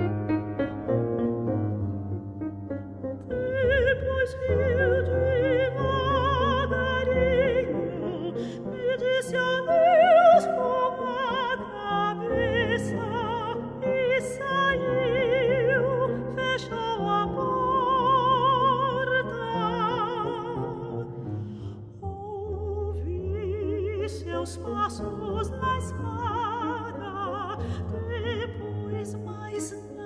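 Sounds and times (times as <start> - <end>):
piano accompaniment: 0.0 - 30.0
soprano singing with vibrato: 3.3 - 21.1, 22.0 - 30.0.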